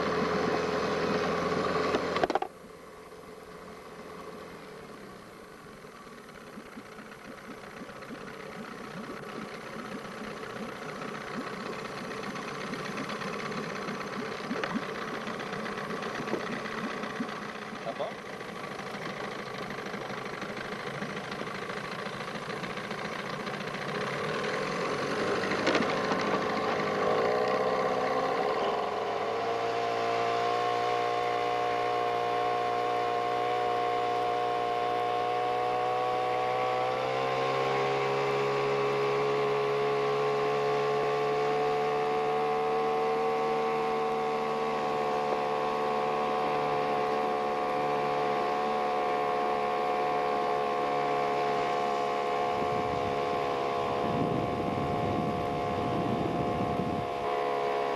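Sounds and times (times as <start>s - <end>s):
small boat motor running: 0.0s - 57.9s.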